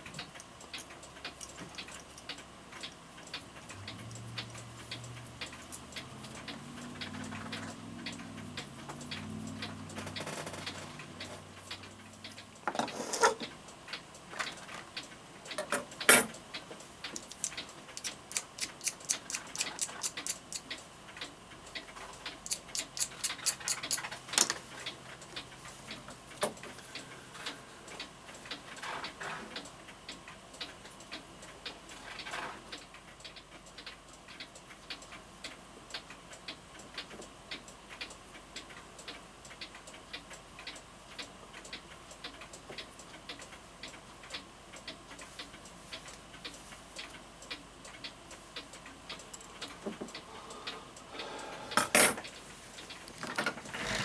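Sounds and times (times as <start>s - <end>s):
mantel clock ticking: 0.0s - 53.2s.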